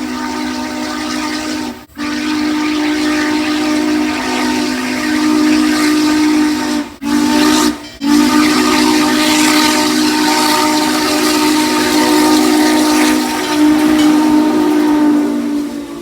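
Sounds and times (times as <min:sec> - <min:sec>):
train horn chord: 0:00.0 - 0:16.0.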